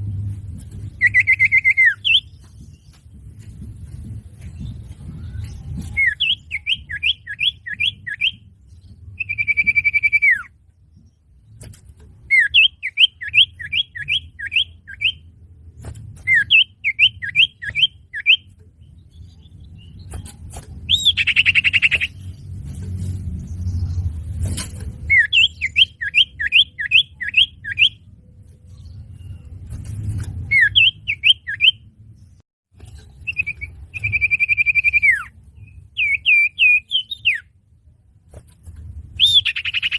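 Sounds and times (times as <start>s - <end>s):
low background rumble: 0.0s - 39.9s
bird singing sweeping notes: 0.1s - 11.6s, 12.2s - 37.6s, 39.0s - 39.9s.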